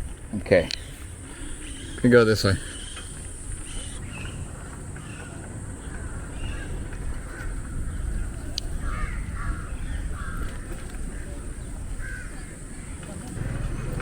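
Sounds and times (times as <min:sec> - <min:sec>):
crows cawing: 0:00.0 - 0:14.0
low wind rumble: 0:00.0 - 0:14.0.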